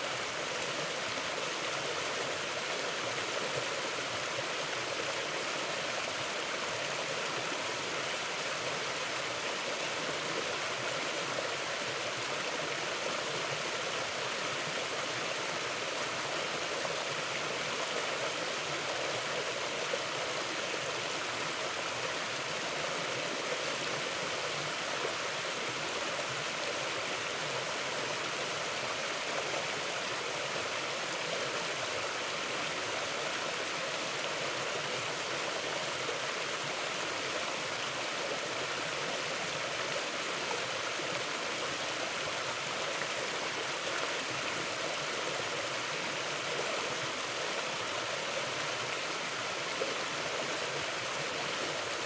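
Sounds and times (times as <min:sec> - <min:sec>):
creek flowing: 0:00.0 - 0:52.0.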